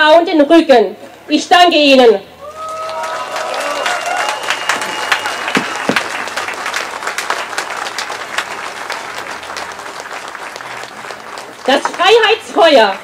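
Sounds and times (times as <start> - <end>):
crowd applauding: 2.4 - 13.0.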